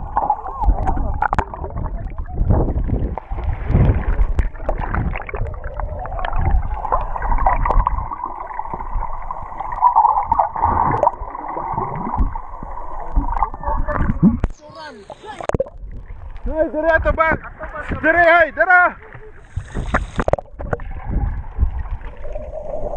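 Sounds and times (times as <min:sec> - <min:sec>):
muffled underwater sloshing: 0:00.0 - 0:22.9.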